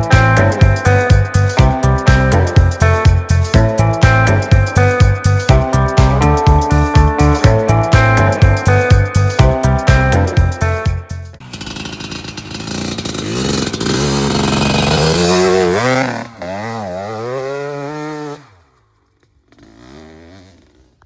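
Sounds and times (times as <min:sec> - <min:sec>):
dirt bike engine revving: 0:00.0 - 0:10.5, 0:11.4 - 0:21.0.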